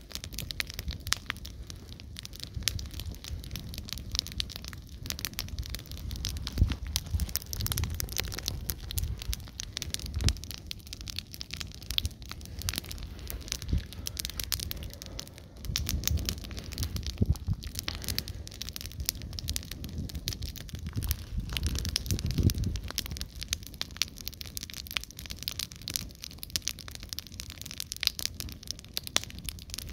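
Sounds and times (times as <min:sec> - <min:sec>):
fire crackling and popping: 0:00.0 - 0:29.9
low rush of fire: 0:00.0 - 0:29.9.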